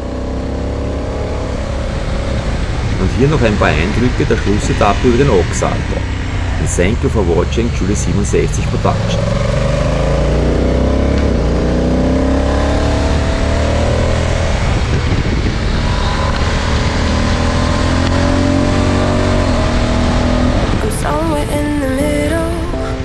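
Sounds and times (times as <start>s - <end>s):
motorcycle engine accelerating: 0.0s - 20.8s.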